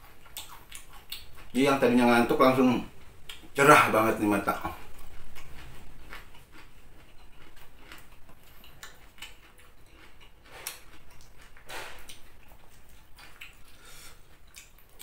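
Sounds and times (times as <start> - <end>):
chewing crunchy raw vegetables: 0.0 - 3.6, 4.4 - 15.0.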